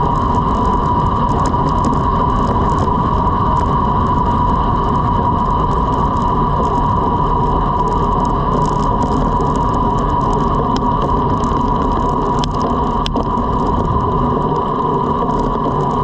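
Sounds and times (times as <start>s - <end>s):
steady whine: 0.0s - 16.0s
wind and road noise: 0.0s - 16.0s.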